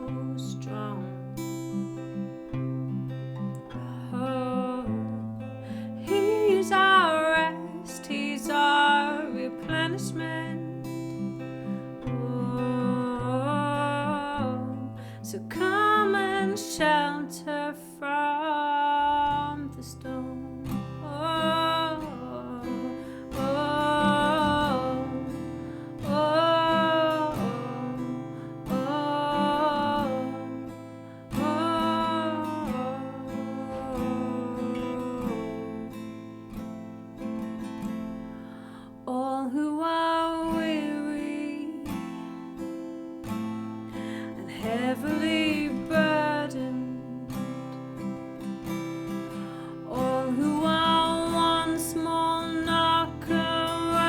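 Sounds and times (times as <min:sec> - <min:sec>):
strummed acoustic guitar: 0:00.0 - 0:54.0
woman singing: 0:00.0 - 0:54.0.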